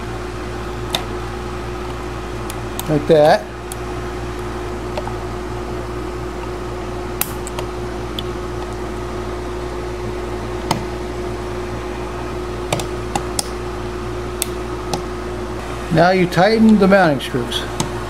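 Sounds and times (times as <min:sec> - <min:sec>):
faint constant whine: 0:00.0 - 0:18.0
steady background hum: 0:00.0 - 0:18.0.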